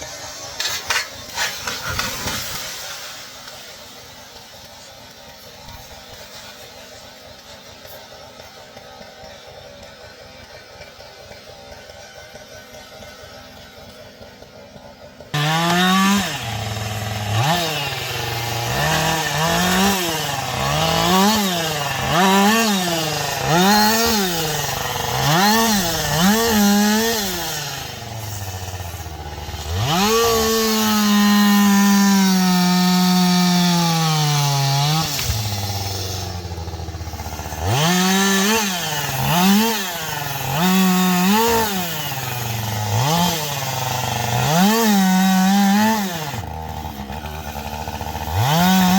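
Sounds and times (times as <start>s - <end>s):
chainsaw revving: 0.0s - 48.9s.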